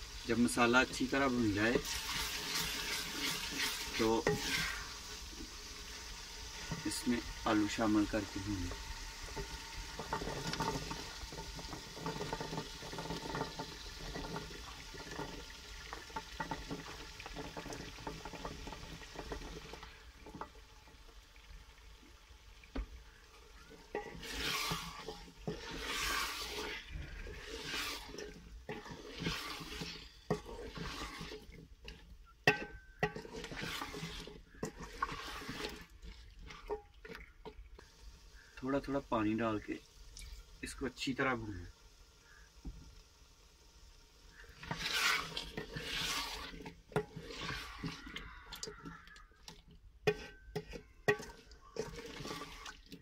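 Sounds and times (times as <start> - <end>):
food sizzling in a pot: 0.0 - 53.0
wooden spoon scraping a pot: 0.2 - 20.7, 22.7 - 39.0, 44.3 - 53.0.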